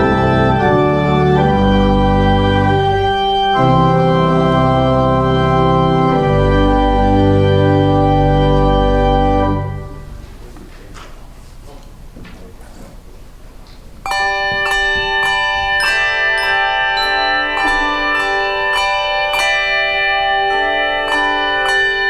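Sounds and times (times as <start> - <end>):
church organ chords: 0.0 - 10.6, 14.1 - 22.0
faint room noise: 0.0 - 22.0.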